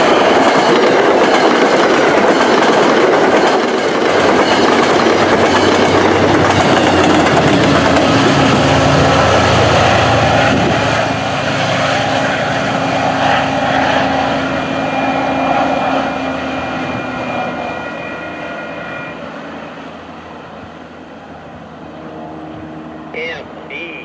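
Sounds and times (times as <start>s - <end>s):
diesel locomotive engine drone: 0.0s - 24.0s
locomotive high whine: 0.0s - 24.0s.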